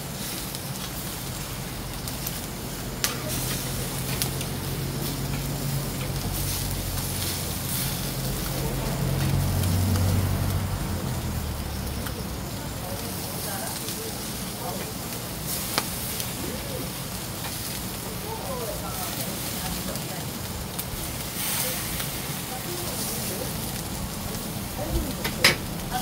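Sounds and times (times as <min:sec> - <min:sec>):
fish sizzling on grill: 0:00.0 - 0:26.0.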